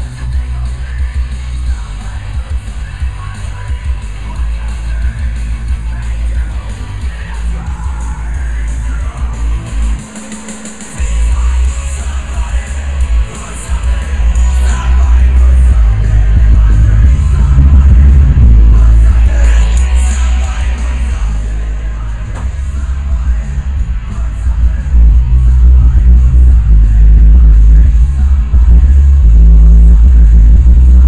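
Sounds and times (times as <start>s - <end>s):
heavy bass: 0.0s - 31.0s
loud music with singing: 0.0s - 31.0s.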